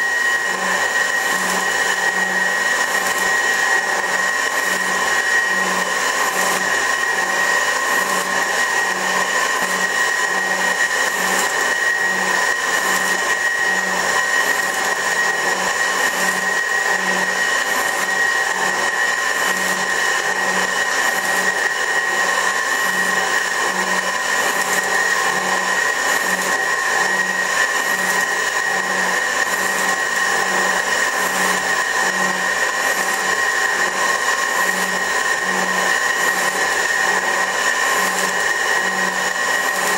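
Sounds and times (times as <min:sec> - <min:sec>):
low pulse of cutting strokes: 0:00.0 - 0:39.9
metal shaper motor and gear whine: 0:00.0 - 0:39.9.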